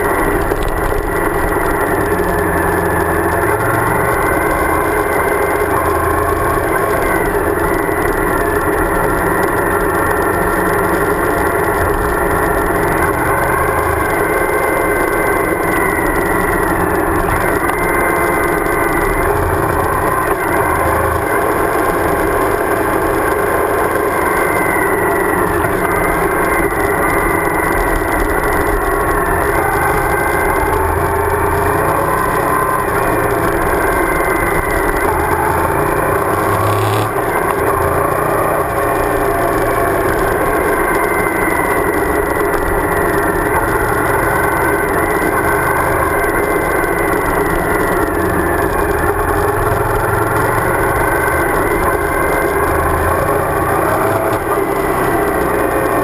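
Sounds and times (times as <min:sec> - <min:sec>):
motorcycle engine cruising: 0:00.0 - 0:56.0
road noise: 0:00.0 - 0:56.0.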